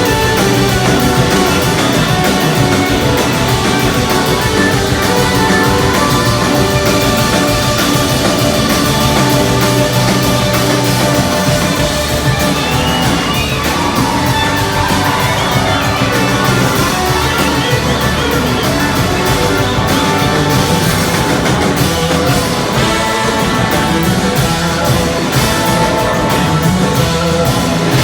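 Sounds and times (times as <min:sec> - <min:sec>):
drums and bass: 0:00.0 - 0:28.0.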